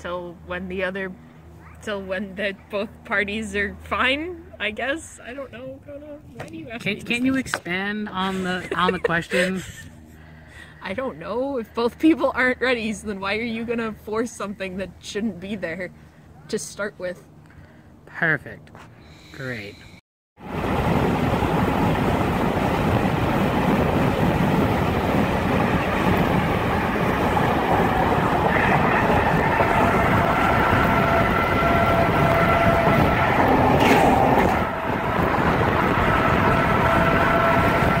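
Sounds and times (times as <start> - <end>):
car road and engine noise: 0.0 - 38.0.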